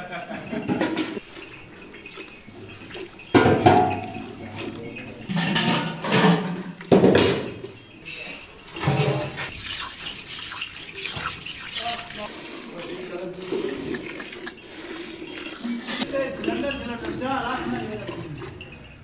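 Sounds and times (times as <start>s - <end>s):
bucket clinking: 0.0s - 19.0s
milk squirting into metal pail: 0.7s - 19.0s.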